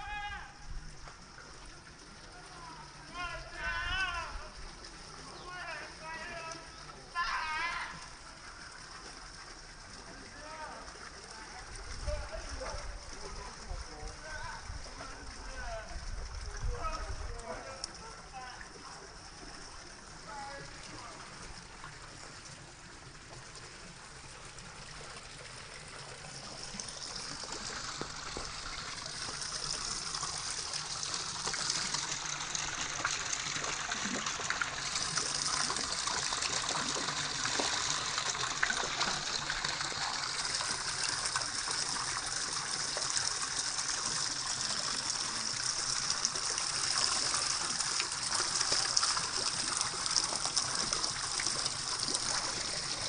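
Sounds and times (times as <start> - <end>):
water rushing and trickling: 0.0 - 53.0.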